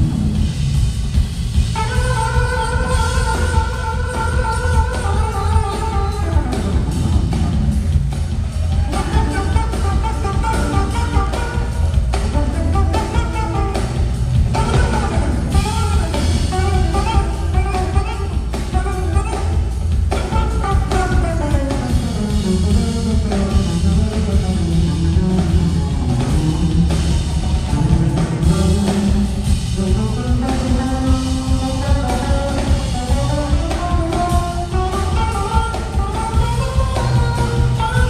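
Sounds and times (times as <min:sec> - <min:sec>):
live funk band playing: 0:00.0 - 0:38.0.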